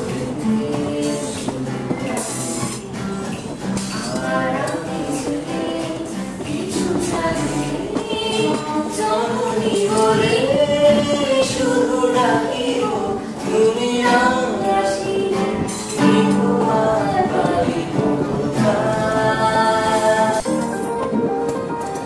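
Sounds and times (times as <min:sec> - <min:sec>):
song with sung vocals: 0:00.0 - 0:20.9.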